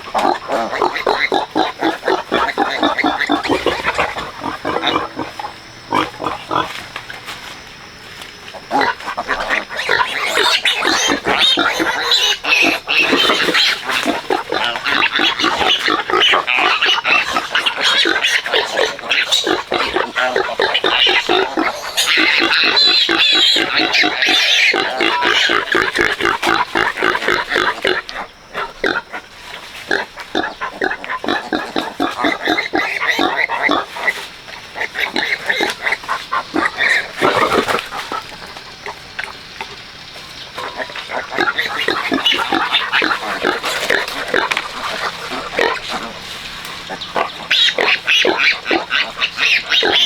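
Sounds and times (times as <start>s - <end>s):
pigs grunting and squealing: 0.0s - 7.3s, 8.5s - 50.0s.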